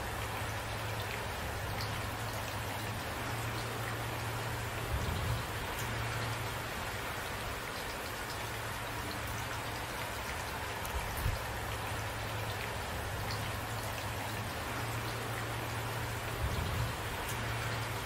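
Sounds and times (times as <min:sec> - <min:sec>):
raindrops hitting close by: 0:00.0 - 0:18.0
steady rain falling: 0:00.0 - 0:18.0.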